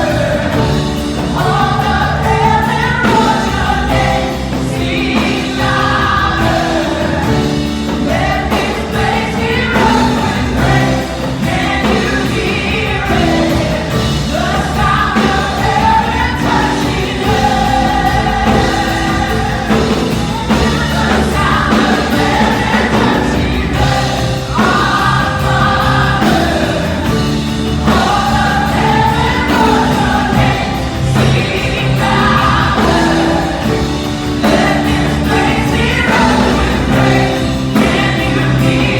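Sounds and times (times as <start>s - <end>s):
instrumental accompaniment with bass: 0.0s - 38.9s
voices singing gospel song: 0.0s - 38.9s.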